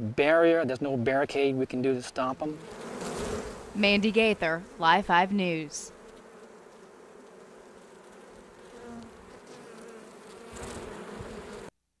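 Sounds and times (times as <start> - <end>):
honeybees buzzing: 1.4 - 11.7.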